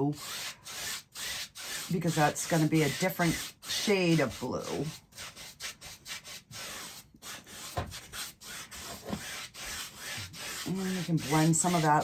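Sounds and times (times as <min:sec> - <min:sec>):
paintbrush scrubbing on canvas: 0:00.0 - 0:12.0.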